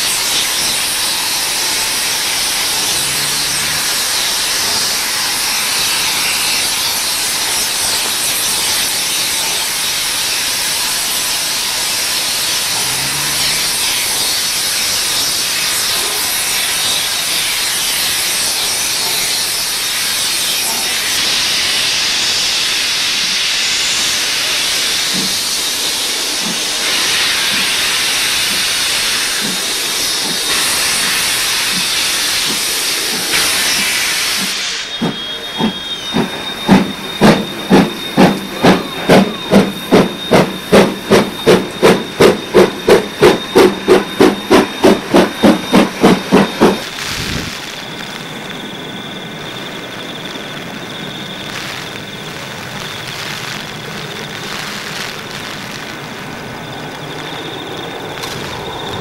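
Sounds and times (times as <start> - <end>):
steam hissing from cylinders: 0.0 - 59.0
steam locomotive exhaust chuffs: 0.0 - 59.0.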